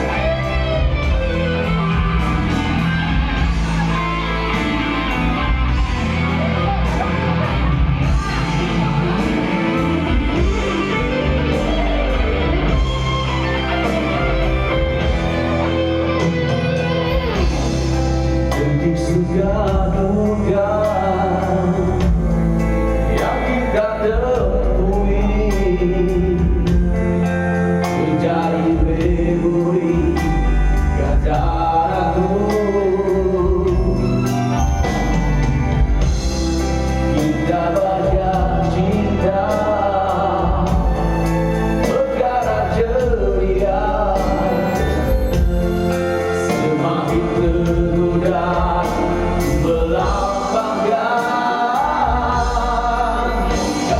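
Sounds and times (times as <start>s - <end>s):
instrumental backing with bass: 0.0s - 53.9s.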